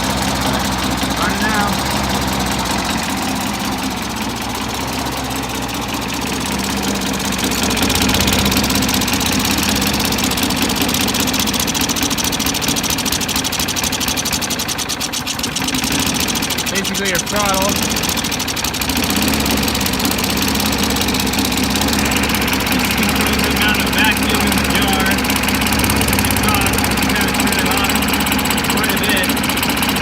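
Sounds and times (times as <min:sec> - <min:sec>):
lawn mower engine running: 0:00.0 - 0:30.0.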